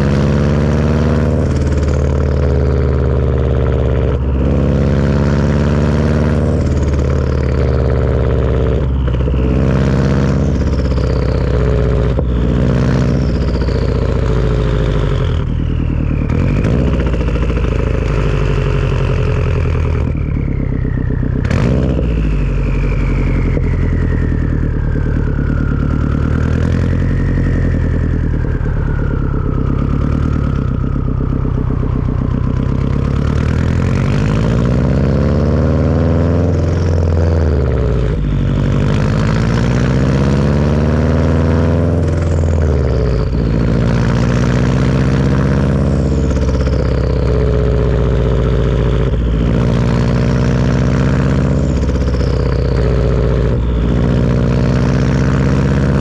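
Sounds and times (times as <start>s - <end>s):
car engine: 0.0s - 56.0s
high turbo whistle: 0.0s - 56.0s.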